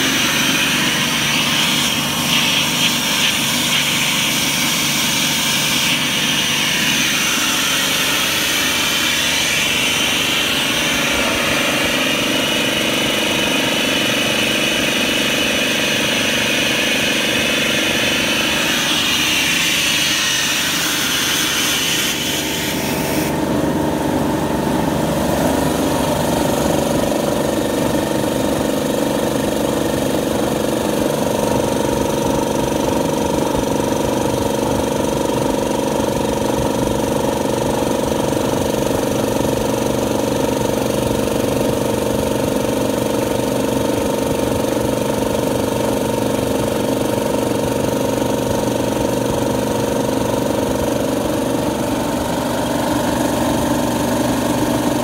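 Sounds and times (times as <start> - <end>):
air compressor running: 0.0 - 55.0.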